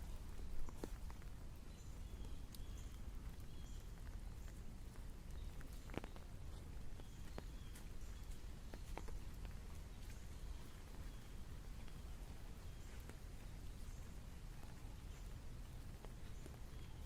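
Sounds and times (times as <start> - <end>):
raindrops tapping: 0.0 - 17.0.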